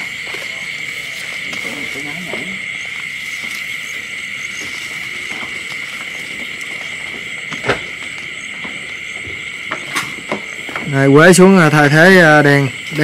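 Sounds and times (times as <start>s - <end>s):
chorus of night insects: 0.0s - 13.0s.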